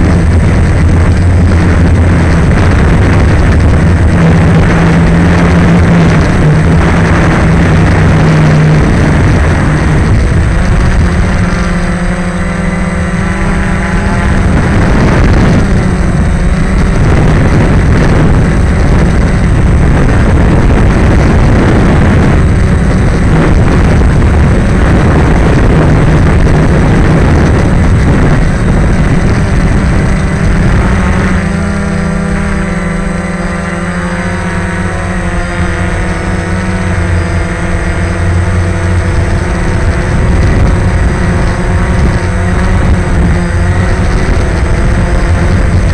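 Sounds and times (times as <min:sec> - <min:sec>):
drone propellers buzzing: 0:00.0 - 0:45.9.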